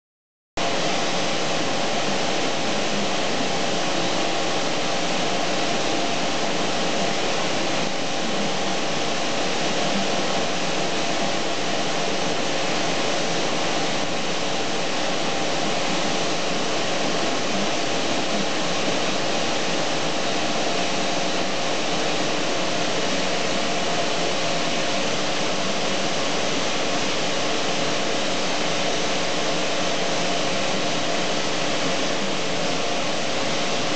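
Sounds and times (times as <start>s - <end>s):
fan motor rushing with hum: 0.6s - 33.9s.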